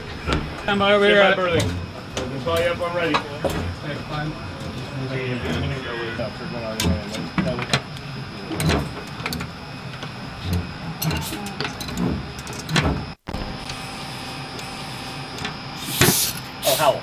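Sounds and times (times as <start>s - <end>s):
steady machinery hum: 0.0s - 17.0s.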